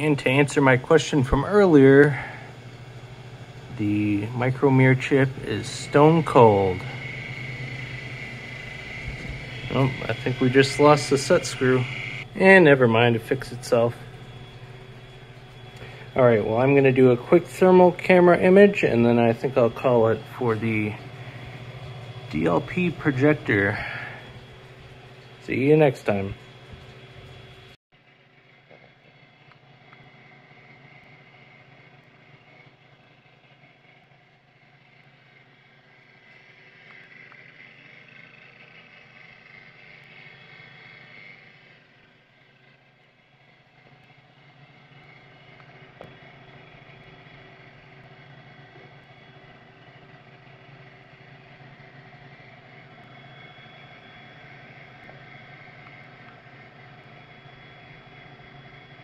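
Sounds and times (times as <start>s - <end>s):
cooling fans whirring: 0.0s - 59.0s.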